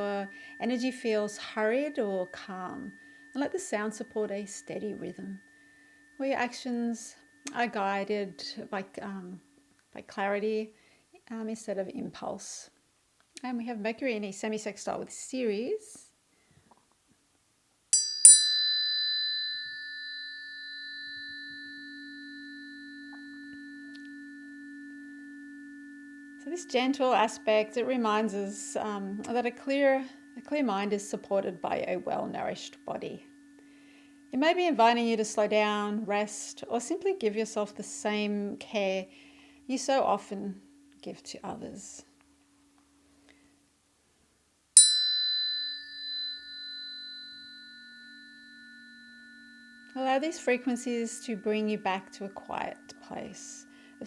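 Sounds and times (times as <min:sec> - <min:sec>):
tuning forks ringing: 0:00.0 - 0:11.0, 0:18.0 - 0:43.8, 0:44.8 - 0:54.0
low steady hum: 0:00.0 - 0:12.2, 0:18.4 - 0:54.0.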